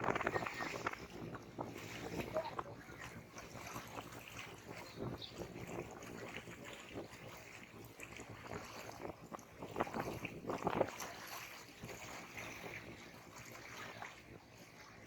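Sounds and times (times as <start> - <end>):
small waves lapping at shore: 0.0 - 15.0.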